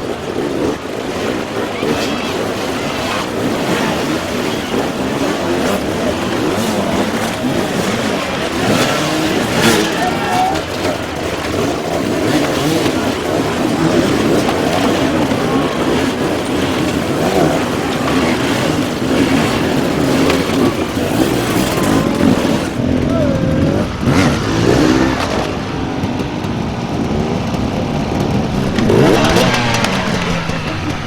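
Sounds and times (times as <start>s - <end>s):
dirt bike engines revving: 0.0s - 31.0s
people's voices: 0.0s - 31.0s.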